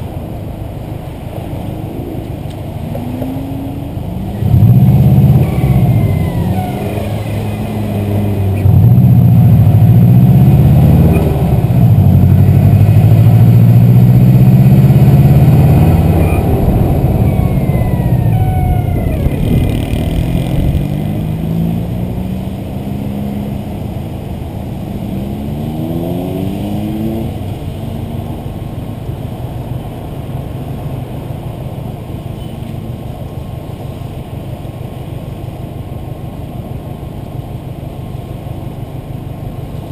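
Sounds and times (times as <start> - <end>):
turbocharged car engine: 0.0 - 39.9.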